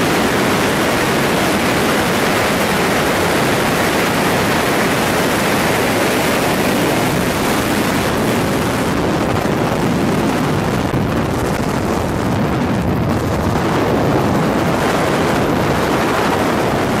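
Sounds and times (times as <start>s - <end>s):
helicopter noise: 0.0s - 17.0s
wind on microphone: 0.0s - 17.0s.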